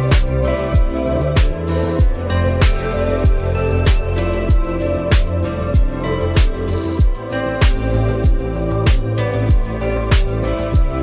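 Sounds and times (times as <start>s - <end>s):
song with steady drum beat: 0.0s - 11.0s.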